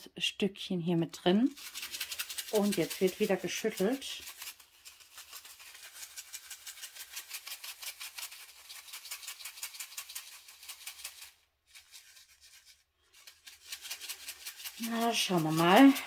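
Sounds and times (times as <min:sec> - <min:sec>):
plastic beads rattling in bag: 0:01.5 - 0:16.0.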